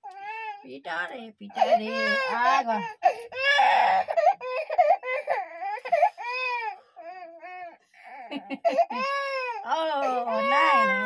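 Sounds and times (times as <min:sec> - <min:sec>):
baby crying: 0:01.6 - 0:11.0.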